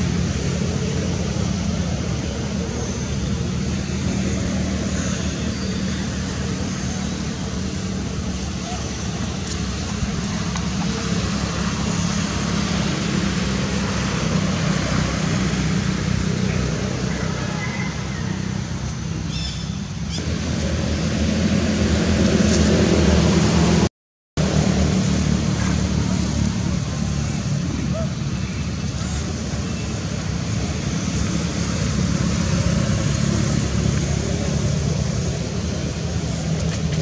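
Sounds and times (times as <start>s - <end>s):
low rumble of motor traffic: 0.0s - 37.0s.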